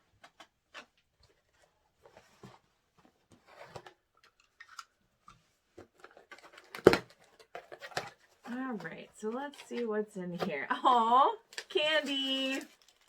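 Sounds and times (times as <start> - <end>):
box packaging rustling and scraping: 0.0 - 13.0.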